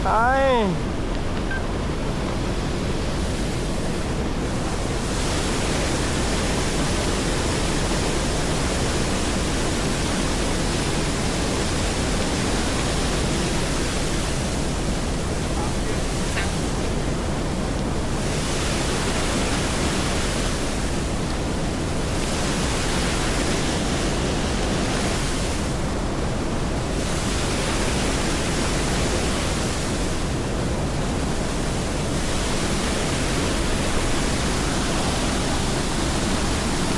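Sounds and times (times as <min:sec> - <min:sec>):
steady rushing noise: 0:00.0 - 0:36.9.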